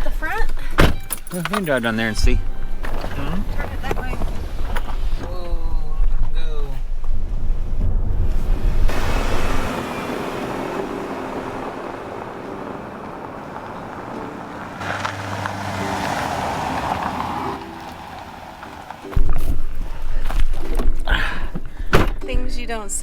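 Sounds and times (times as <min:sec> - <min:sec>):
car engine: 0:00.0 - 0:05.5, 0:08.3 - 0:22.2
road noise: 0:00.0 - 0:23.0.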